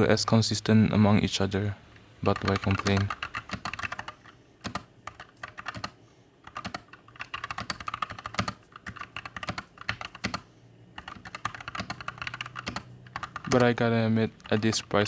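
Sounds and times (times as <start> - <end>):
mechanical keyboard typing: 2.2 - 15.0.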